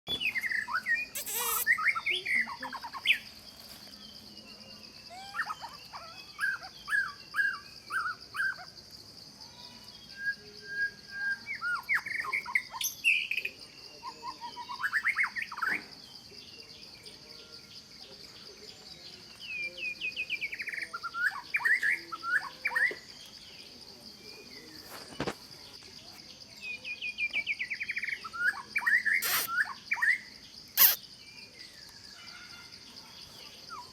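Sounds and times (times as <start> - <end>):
birds chirping: 0.1 - 33.9
insect drone: 0.1 - 33.9.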